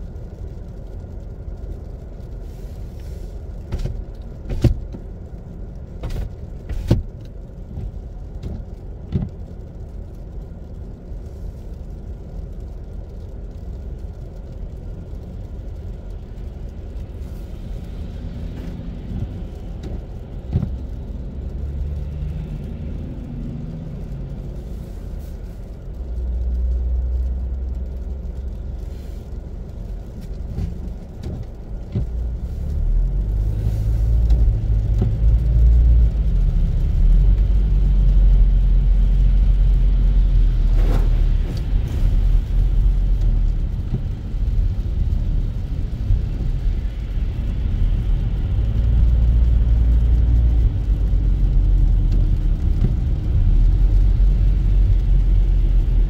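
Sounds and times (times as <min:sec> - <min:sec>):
car and traffic rumble: 0:00.0 - 0:56.0.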